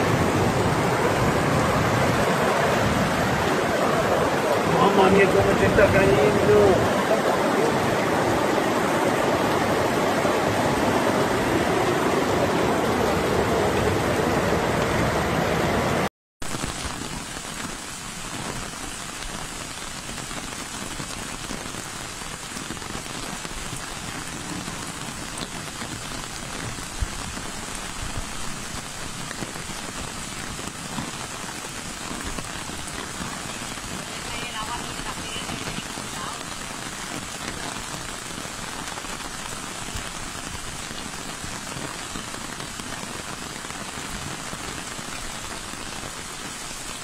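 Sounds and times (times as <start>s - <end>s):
heavy rain: 0.0s - 47.0s
rushing floodwater: 0.0s - 47.0s.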